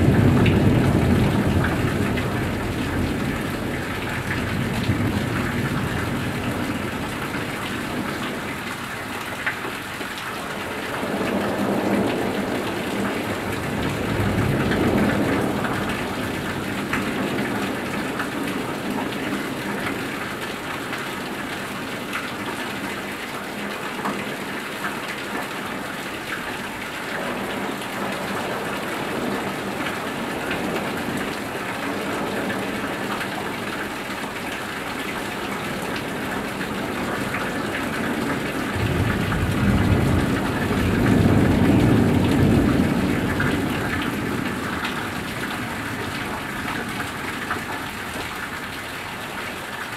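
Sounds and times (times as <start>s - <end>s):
low rumble of thunder: 0.0s - 9.1s, 10.4s - 21.8s, 26.5s - 48.8s
heavy rain: 0.0s - 49.9s
roof runoff pouring and splashing: 0.0s - 49.9s.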